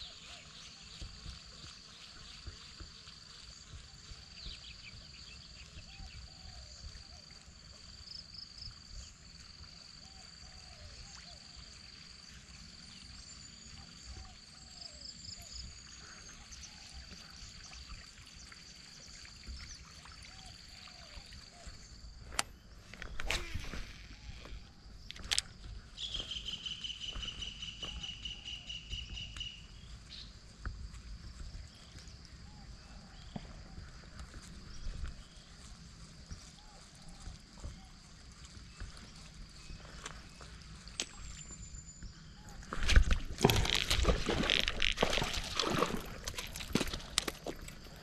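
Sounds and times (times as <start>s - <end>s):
high insect trill: 0.0s - 48.0s.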